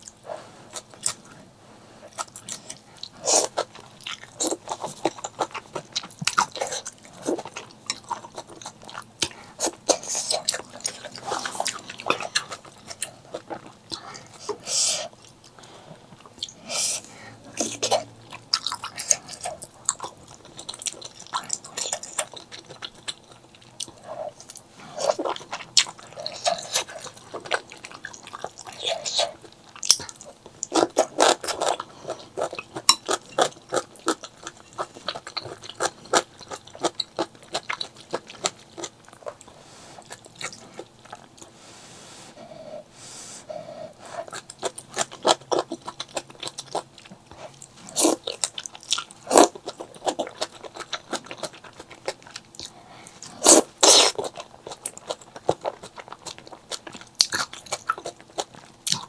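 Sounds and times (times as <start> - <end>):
crunchy chewing: 0.0 - 41.6, 42.4 - 59.0.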